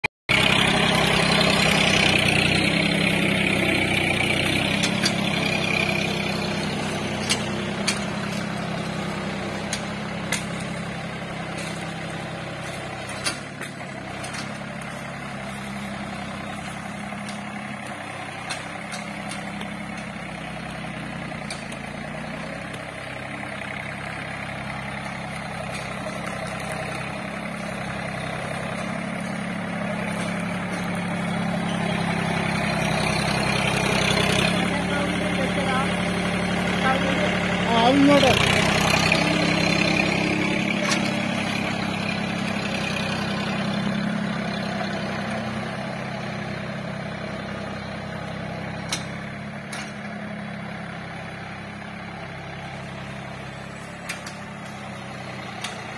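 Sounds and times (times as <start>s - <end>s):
tractor diesel engine running: 0.3s - 55.9s.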